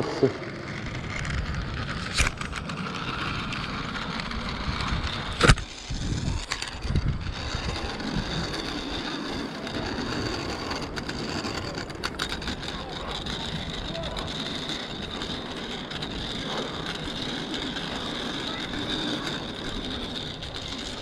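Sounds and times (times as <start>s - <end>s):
zipline pulleys whirring on cable: 0.0s - 21.0s.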